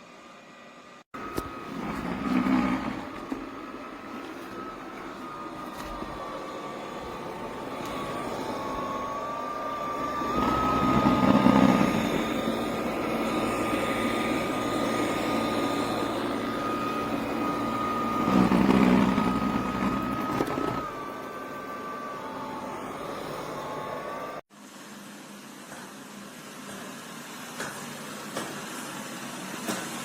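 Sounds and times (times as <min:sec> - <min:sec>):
small electric motor whine: 0:00.0 - 0:30.0.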